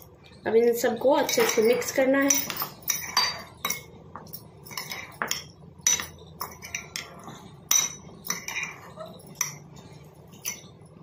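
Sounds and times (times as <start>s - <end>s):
metal spoon clinking on glass bowl: 0.9s - 11.0s.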